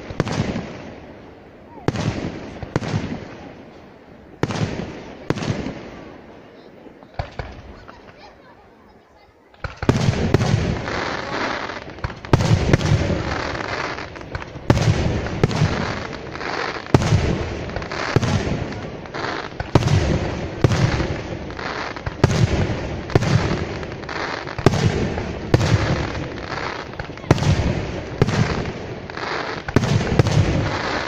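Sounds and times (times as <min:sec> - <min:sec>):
firework shells booming: 0:00.0 - 0:03.8, 0:04.4 - 0:06.3, 0:07.0 - 0:08.3, 0:09.5 - 0:31.0
firework crackling: 0:00.0 - 0:31.0.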